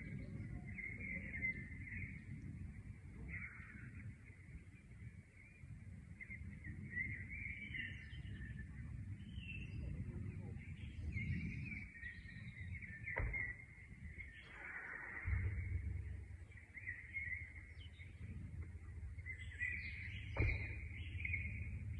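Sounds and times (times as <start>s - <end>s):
small birds chirping: 0.0s - 21.9s
steady low rumble: 0.0s - 21.9s.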